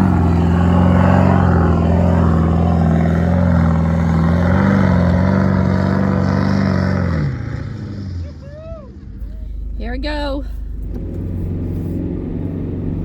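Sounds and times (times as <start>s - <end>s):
car engine running under load: 0.0s - 13.0s.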